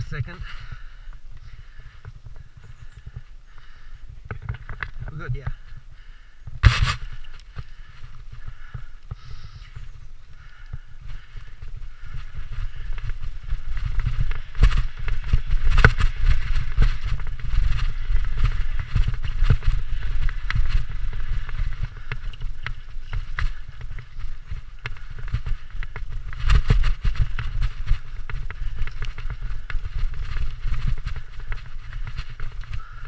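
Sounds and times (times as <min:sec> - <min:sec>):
bike rattling over bumps: 0:00.0 - 0:33.0
bike tyres rumbling on dirt: 0:00.0 - 0:33.0.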